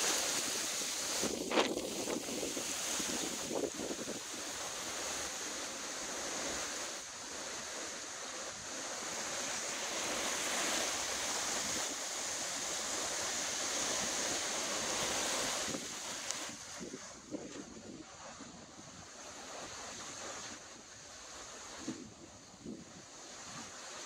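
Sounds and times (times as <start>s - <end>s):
storm wind through palm fronds: 0.0s - 24.0s.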